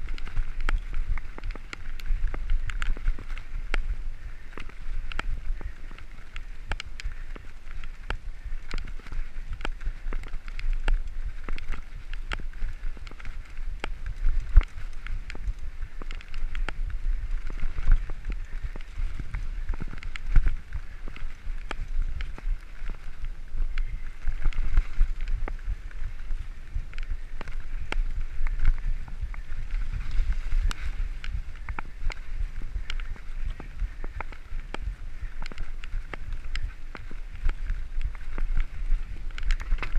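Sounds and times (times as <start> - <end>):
bike rattling over stones: 0.0 - 39.9
bike tyres rumbling on gravel: 0.0 - 39.9.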